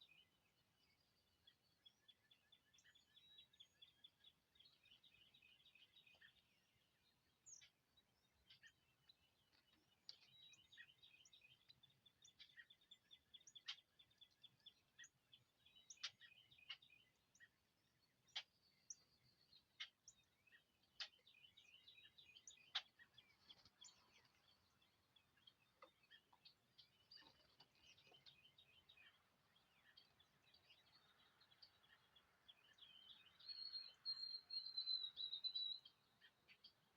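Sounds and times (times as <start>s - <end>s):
songbirds chirping and twittering: 0.0s - 36.9s.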